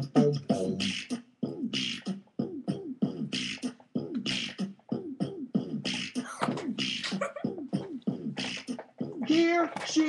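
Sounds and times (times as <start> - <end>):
girls beatboxing: 0.0 - 10.0.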